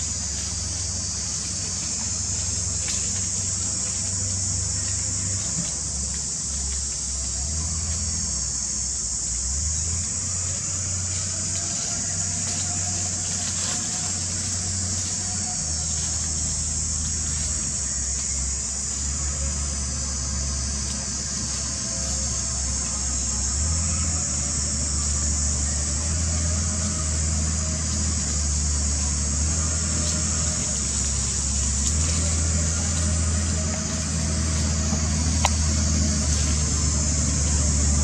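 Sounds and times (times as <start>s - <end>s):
high-pitched hiss: 0.0s - 38.0s.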